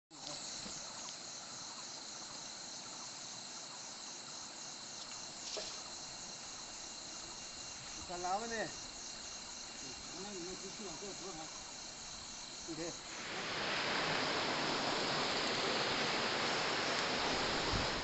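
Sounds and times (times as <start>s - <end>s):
pulsing insect chorus: 0.1s - 18.0s.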